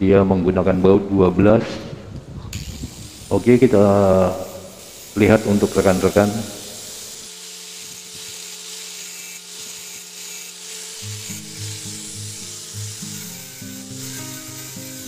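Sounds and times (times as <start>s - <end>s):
angle grinder cutting metal: 2.5s - 15.0s.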